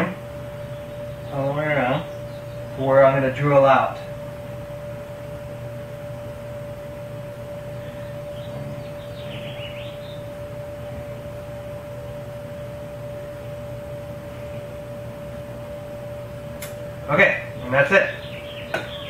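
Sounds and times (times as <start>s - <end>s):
lower background hum: 0.0s - 19.0s
steady single-pitched hum: 0.0s - 19.0s.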